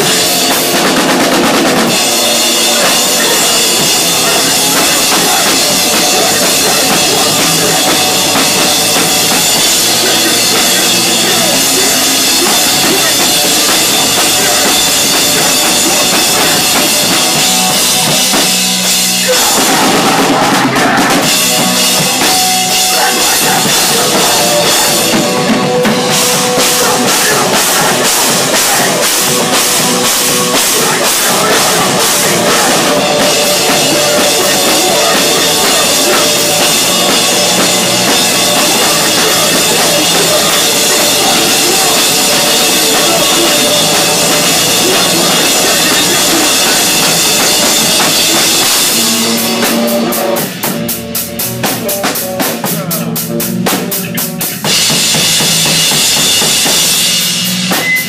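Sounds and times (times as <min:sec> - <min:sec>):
drum kit pounding: 0:00.0 - 0:58.0
electric guitar: 0:00.0 - 0:58.0
rock band playing live: 0:00.0 - 0:58.0.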